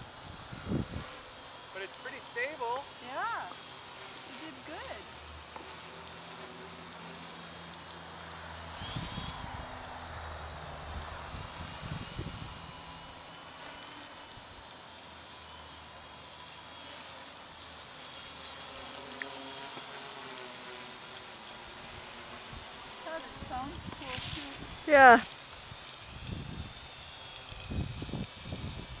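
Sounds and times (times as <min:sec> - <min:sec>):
quadcopter propellers buzzing: 0:00.0 - 0:29.0.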